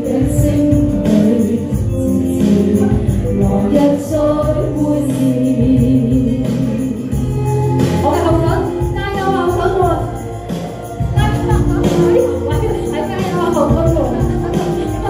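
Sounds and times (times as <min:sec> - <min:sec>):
karaoke backing track: 0:00.0 - 0:15.0
woman singing into a microphone: 0:00.0 - 0:15.0.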